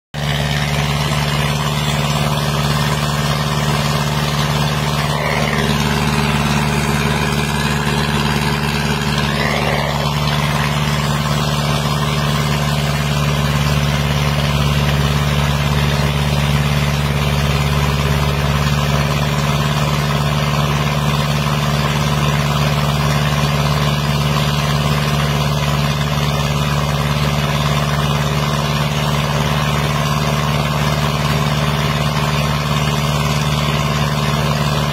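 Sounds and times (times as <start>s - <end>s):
pump engine humming: 0.2s - 34.9s.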